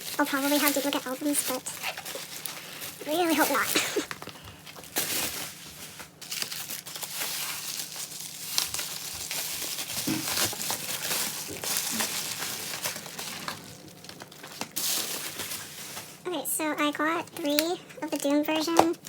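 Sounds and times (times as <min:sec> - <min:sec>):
packaging tearing: 0:00.0 - 0:16.2
packaging crinkling and rustling: 0:00.0 - 0:19.0.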